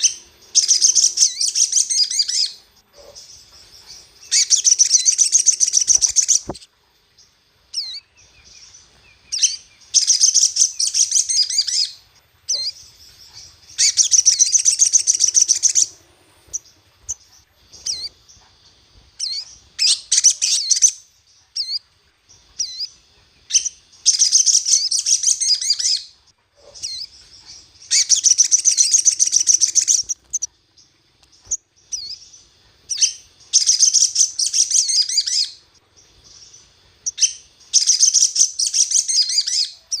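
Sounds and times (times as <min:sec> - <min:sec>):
bird warbling song: 0:00.0 - 0:40.0.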